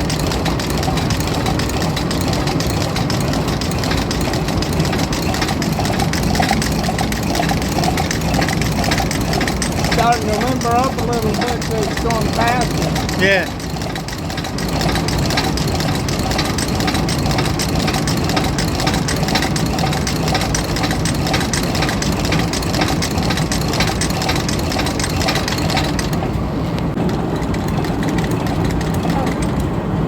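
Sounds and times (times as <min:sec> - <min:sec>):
engine-like drone: 0:00.0 - 0:30.0
sewing machine clatter: 0:00.0 - 0:30.0.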